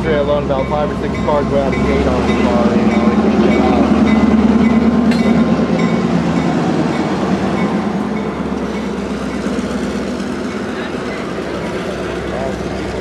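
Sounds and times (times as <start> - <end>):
train cars rolling rumble: 0.0 - 13.0.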